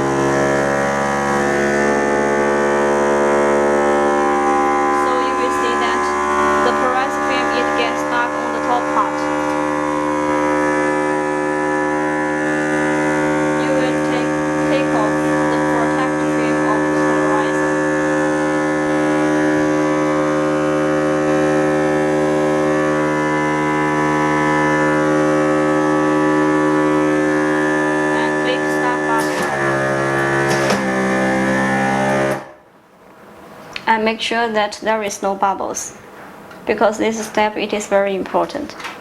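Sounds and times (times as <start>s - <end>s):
vacuum pump humming: 0.0s - 39.0s.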